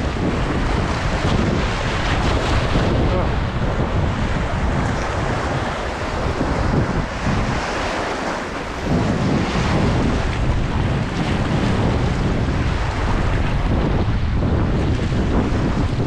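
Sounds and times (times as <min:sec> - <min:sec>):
whitewater rushing: 0:00.0 - 0:16.0
wind buffeting microphone: 0:00.0 - 0:16.0.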